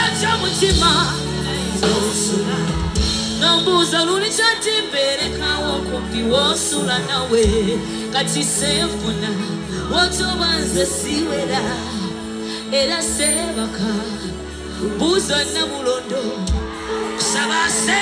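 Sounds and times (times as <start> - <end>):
live band playing: 0.0 - 18.0
woman singing: 0.0 - 18.0.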